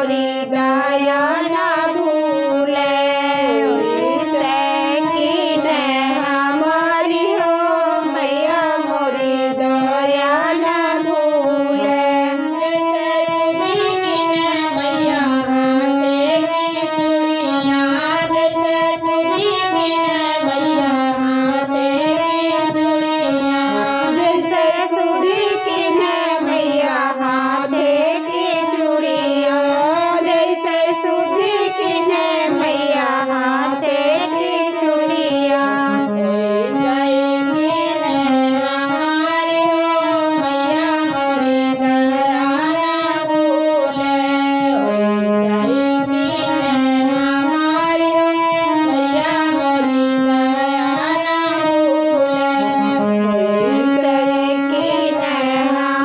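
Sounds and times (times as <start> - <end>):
harmonium chords: 0.0 - 56.0
women singing a devotional song: 0.0 - 56.0.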